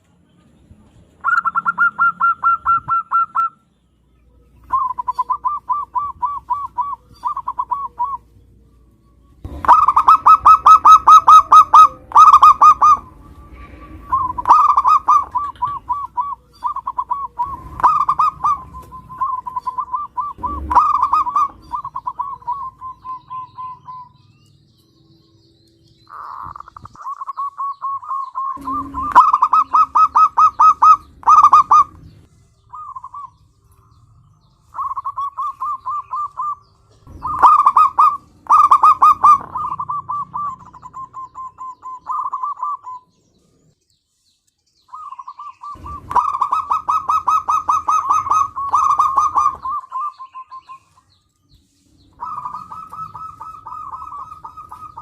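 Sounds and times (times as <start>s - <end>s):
dove cooing: 1.2s - 3.6s, 4.4s - 24.4s, 26.0s - 34.0s, 34.6s - 43.1s, 44.9s - 51.1s, 52.0s - 55.0s.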